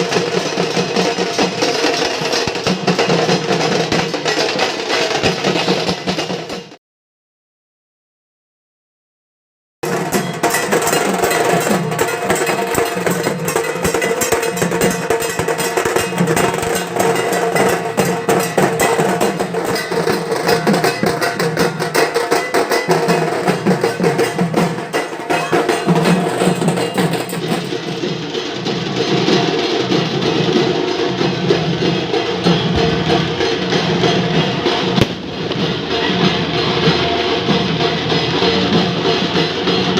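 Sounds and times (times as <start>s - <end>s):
drums beaten rapidly with sticks: 0.0s - 6.8s, 9.8s - 39.9s.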